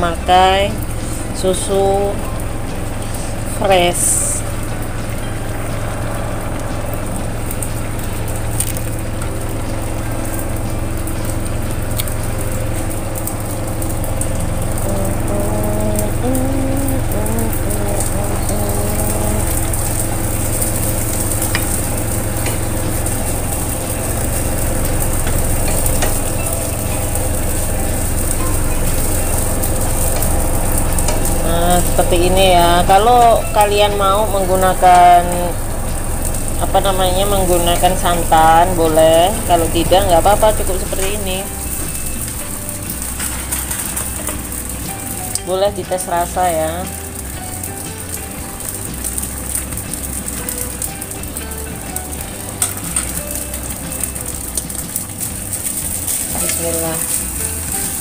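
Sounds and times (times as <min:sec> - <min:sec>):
constant low hum: 0:00.0 - 0:58.0
curry bubbling in a wok: 0:04.4 - 0:15.3, 0:17.0 - 0:34.9, 0:35.5 - 0:58.0.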